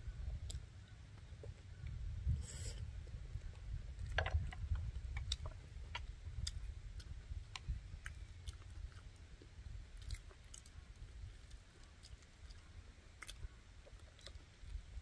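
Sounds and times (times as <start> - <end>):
people chewing bread: 0.0 - 15.0
steady low rumble: 0.0 - 15.0.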